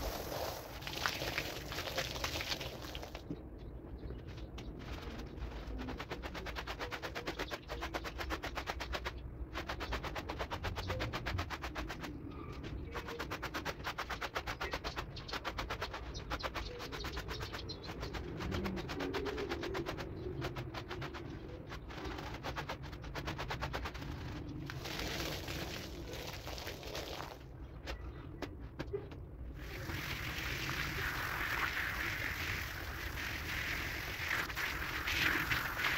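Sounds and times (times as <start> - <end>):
brush scrubbing wet rug: 0.0 - 3.2, 4.8 - 12.2, 12.8 - 27.4, 29.5 - 35.9.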